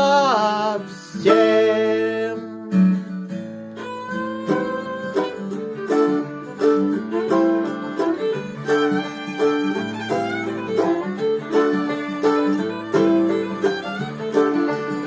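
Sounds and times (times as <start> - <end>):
fiddle melody: 0.0 - 15.0
picked acoustic guitar: 0.0 - 15.0.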